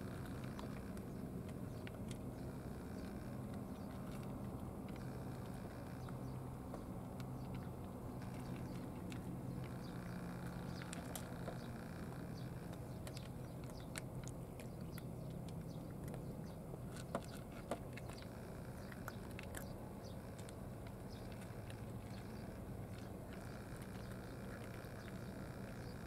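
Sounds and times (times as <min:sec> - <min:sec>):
cat crunching dry kibble: 0:00.0 - 0:26.0
steady low hum: 0:00.0 - 0:26.0.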